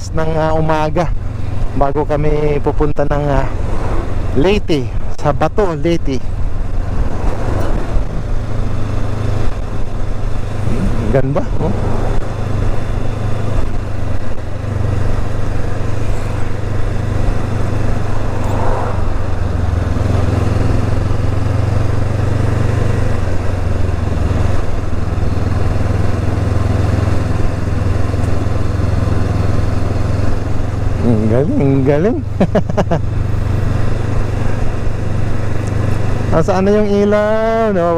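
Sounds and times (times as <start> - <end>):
motorcycle engine running: 0.0 - 37.9
road and wind noise: 0.0 - 37.9.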